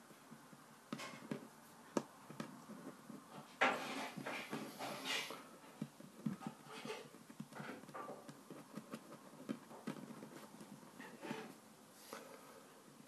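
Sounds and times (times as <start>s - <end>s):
rubbing play dough: 0.0s - 12.3s.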